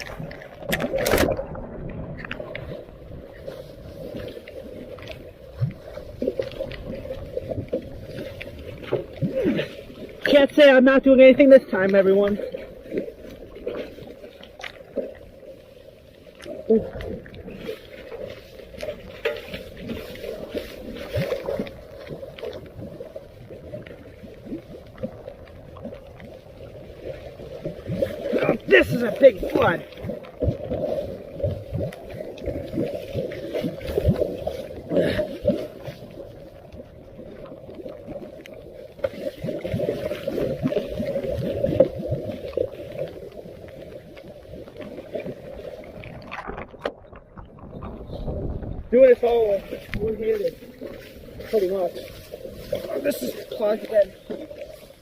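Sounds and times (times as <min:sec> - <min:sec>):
floodwater splashing: 0:00.0 - 0:55.0.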